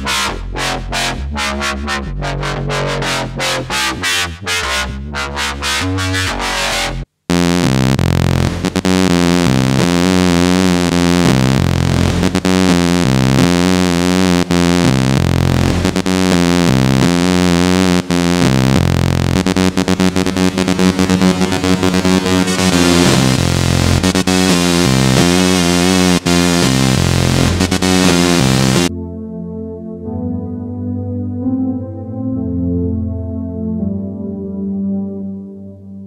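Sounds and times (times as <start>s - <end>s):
stepping bass line: 0.0s - 29.0s
noisy electronic synthesizer music: 0.0s - 36.0s.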